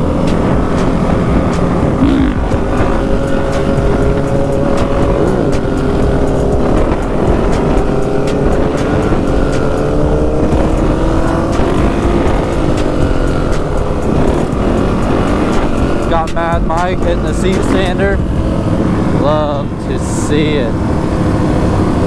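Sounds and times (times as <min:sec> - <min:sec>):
dirt bike engine running: 0:00.0 - 0:22.0
wind rush on microphone: 0:00.0 - 0:22.0.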